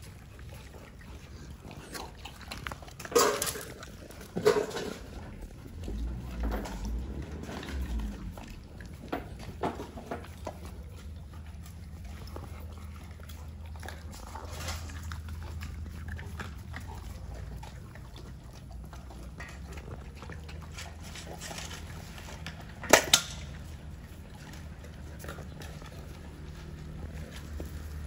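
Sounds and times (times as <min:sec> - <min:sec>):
dogs chewing and crunching bone: 0:00.0 - 0:28.0.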